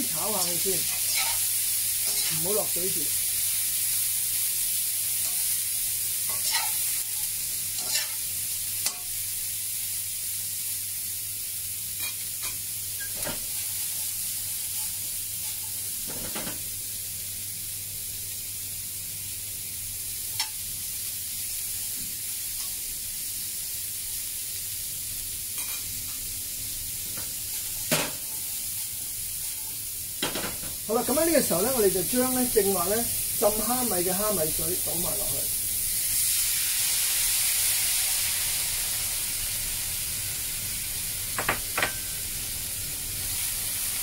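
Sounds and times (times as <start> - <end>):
cauliflower sizzling in hot oil: 0.0 - 44.0.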